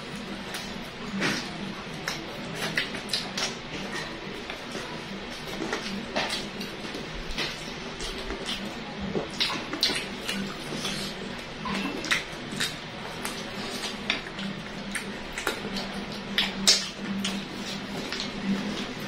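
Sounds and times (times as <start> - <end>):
chewing with crunches and smacks: 0.0 - 19.0
steady low hum: 0.0 - 19.0.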